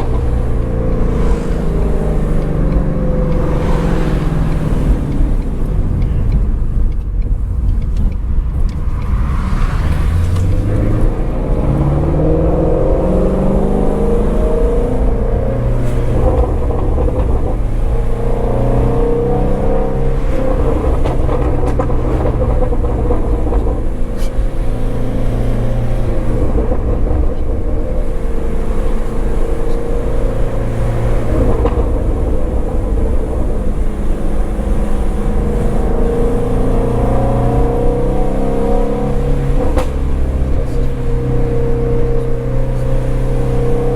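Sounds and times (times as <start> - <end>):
car engine accelerating and cruising: 0.0 - 43.9.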